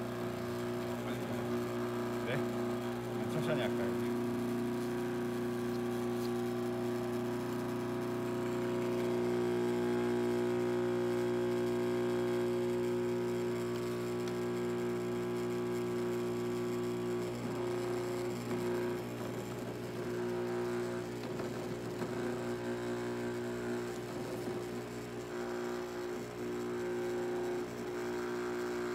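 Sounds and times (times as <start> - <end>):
vibrator humming buzz: 0.0 - 28.9.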